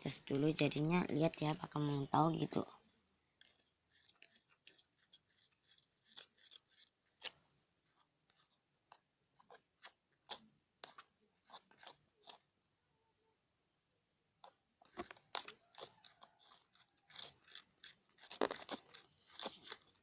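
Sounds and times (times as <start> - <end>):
slime being stirred: 0.0 - 12.6, 14.4 - 20.0.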